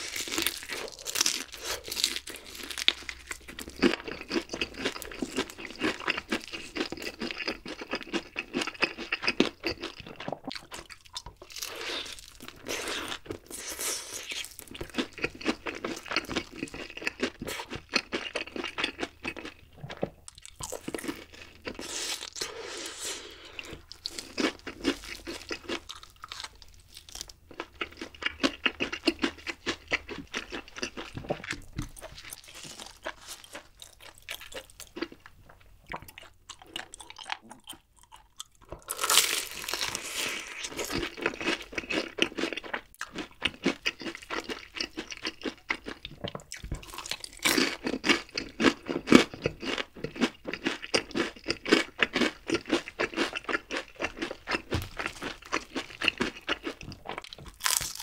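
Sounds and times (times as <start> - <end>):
crunching fried chicken: 0.0 - 35.3, 35.9 - 58.0.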